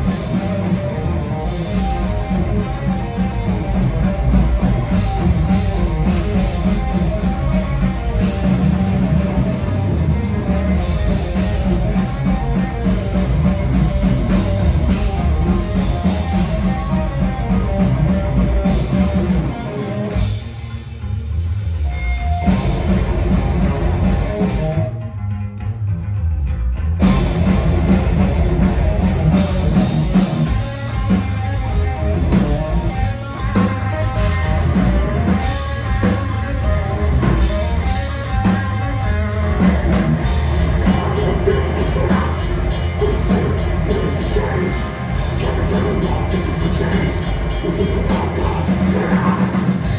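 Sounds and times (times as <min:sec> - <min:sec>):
bass guitar: 0:00.0 - 0:49.9
distorted electric guitar: 0:00.0 - 0:49.9
drum kit: 0:00.0 - 0:49.9.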